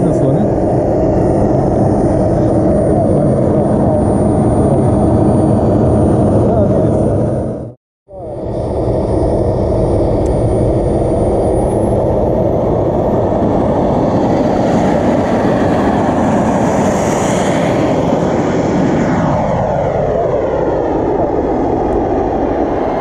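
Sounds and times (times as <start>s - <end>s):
jet turbine roar and whine: 0.0s - 23.0s.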